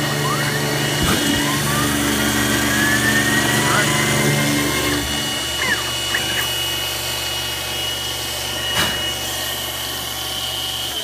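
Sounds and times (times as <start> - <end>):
end mill grinding: 0.0 - 11.0
milling machine hum and whine: 0.0 - 11.0.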